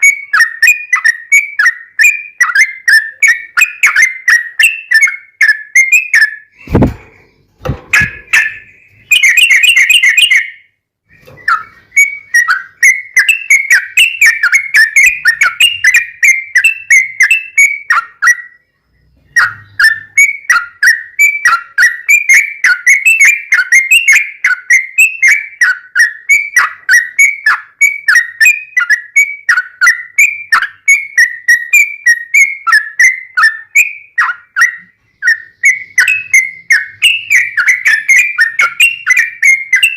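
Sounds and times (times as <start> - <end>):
bulbul singing whistled notes: 0.0 - 6.9, 7.9 - 39.9.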